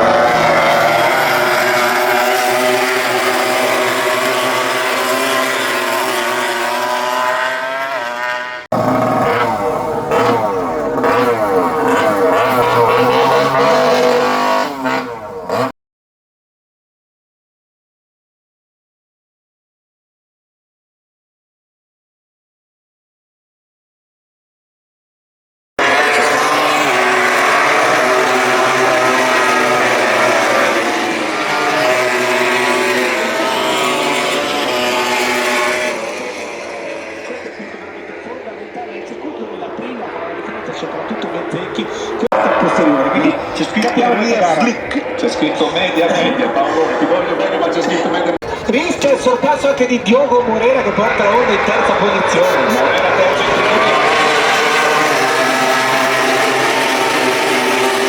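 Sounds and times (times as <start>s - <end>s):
racing motorcycles passing: 0.0s - 15.7s, 25.8s - 58.0s.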